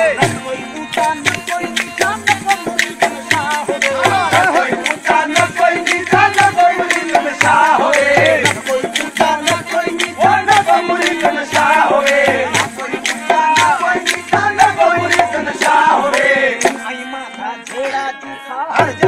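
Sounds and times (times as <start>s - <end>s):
hand drum beat: 0.0s - 16.9s.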